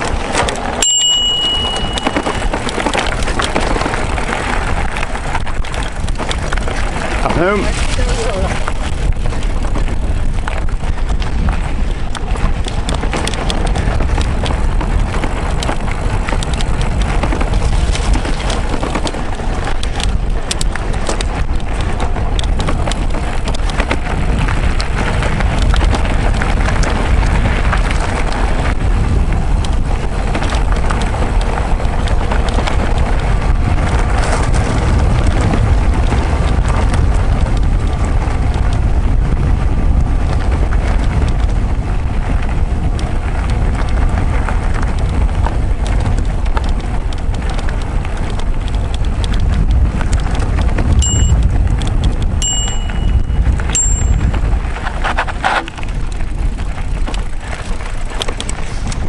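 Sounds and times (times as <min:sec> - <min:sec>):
bike rattling and clicking: 0:00.0 - 0:59.0
wind rush on microphone: 0:00.0 - 0:59.0.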